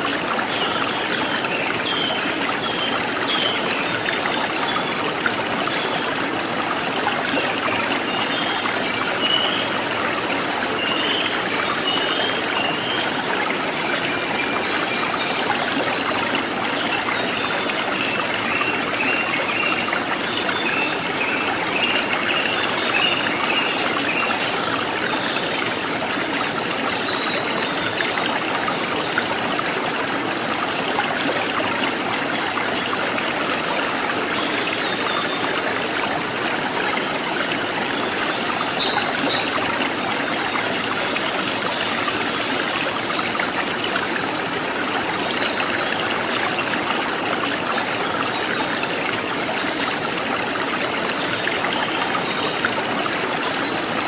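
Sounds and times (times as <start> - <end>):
stream water trickling and splashing: 0.0 - 54.0.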